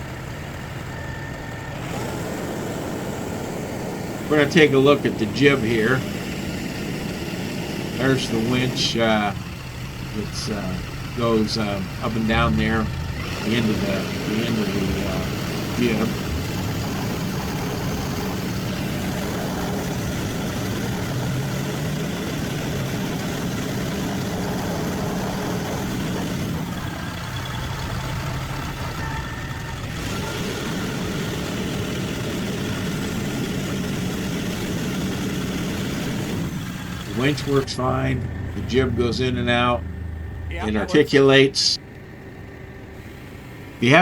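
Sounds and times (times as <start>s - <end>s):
diesel truck engine idling: 0.0s - 44.0s.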